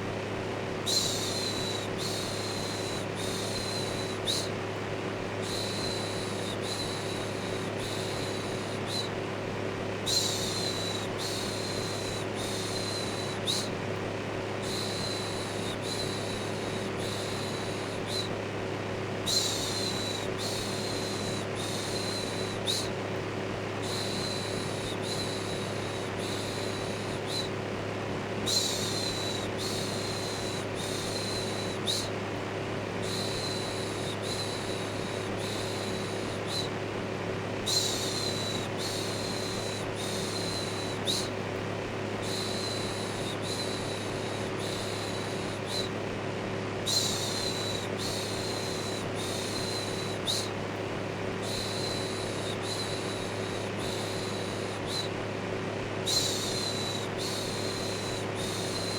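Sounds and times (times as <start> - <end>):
electric fan humming: 0.0 - 58.9.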